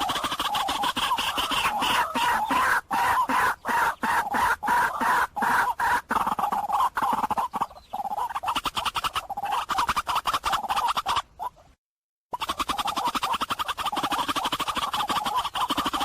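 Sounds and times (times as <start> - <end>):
bird calling harshly: 0.0 - 11.7, 12.3 - 16.0.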